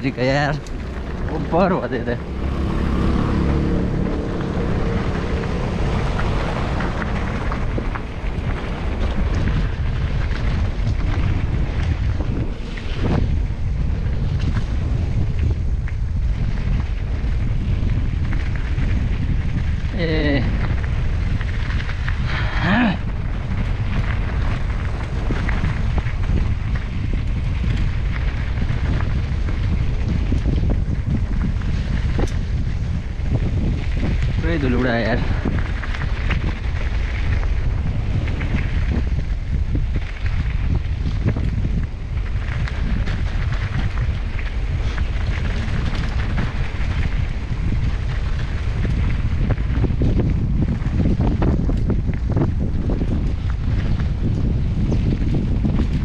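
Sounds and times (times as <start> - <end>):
clicks and rattles from rough road: 0.0 - 56.0
wind buffeting microphone: 0.0 - 56.0.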